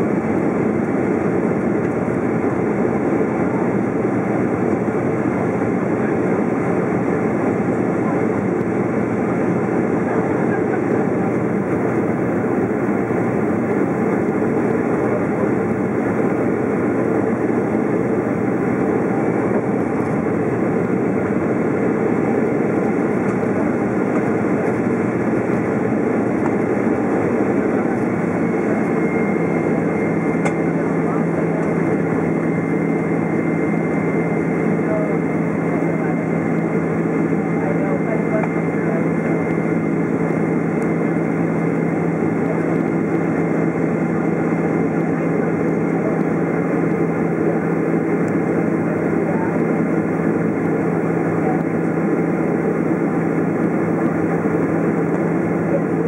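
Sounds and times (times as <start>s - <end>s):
jet engines roaring in cabin: 0.0s - 56.0s.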